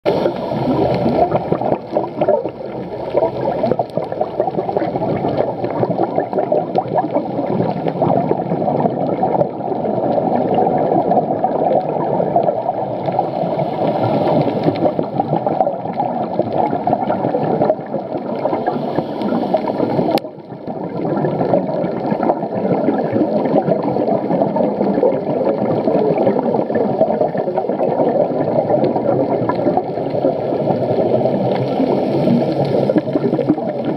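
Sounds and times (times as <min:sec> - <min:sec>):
muffled underwater rushing: 0:00.1 - 0:33.9.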